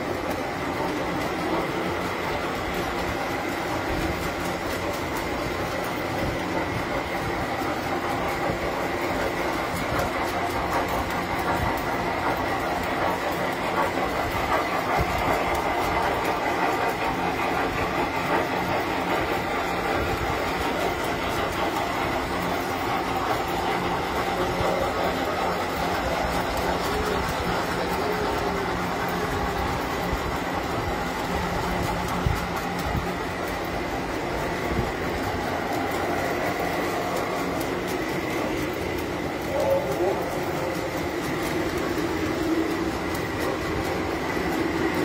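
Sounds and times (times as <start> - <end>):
fine clicking and rattle: 0.0 - 45.0
toy trains running on metal track: 0.0 - 45.0.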